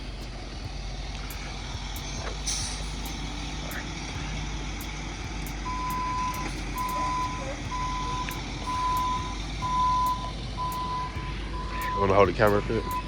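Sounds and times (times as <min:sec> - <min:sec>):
truck engine rumble: 0:00.0 - 0:13.0
reversing alarm beeping: 0:01.3 - 0:13.0.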